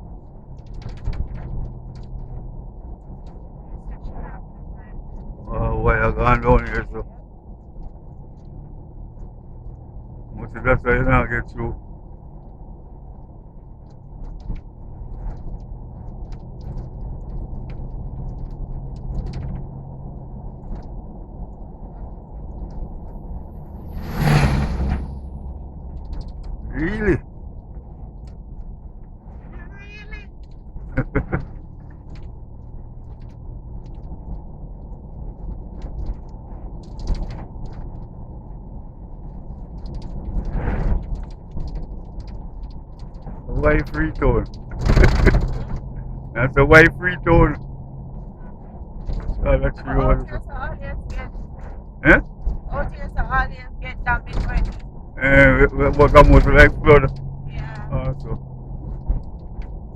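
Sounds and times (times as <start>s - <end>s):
car engine and road rumble: 0.0s - 59.9s
light rattles and clicks: 0.0s - 59.9s.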